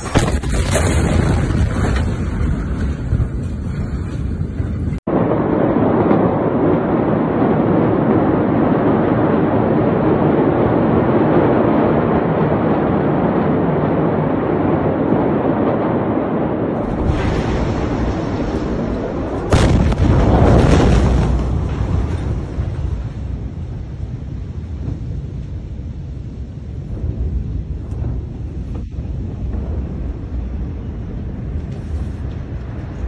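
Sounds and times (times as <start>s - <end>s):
wind rushing on microphone: 0.0s - 33.0s.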